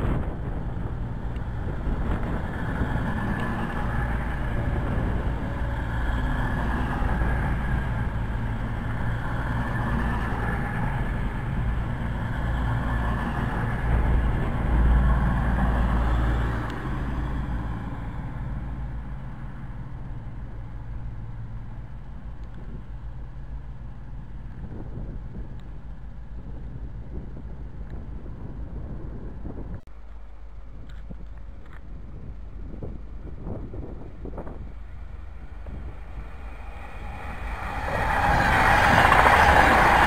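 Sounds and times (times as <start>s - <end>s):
diesel train passing: 0.0s - 40.0s.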